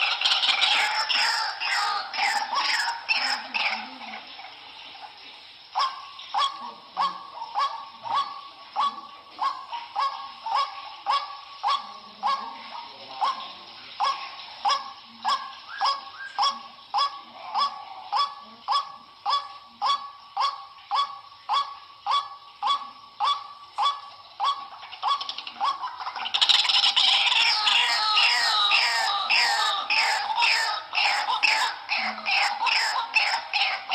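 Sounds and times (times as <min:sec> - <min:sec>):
fast croaking bird calls: 0:00.0 - 0:33.9
waterhen calling: 0:00.0 - 0:33.9.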